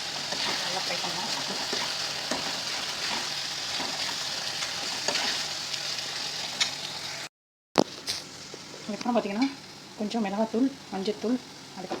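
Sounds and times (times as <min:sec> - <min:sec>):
food sizzling in a pan: 0:00.0 - 0:07.3, 0:07.9 - 0:12.0.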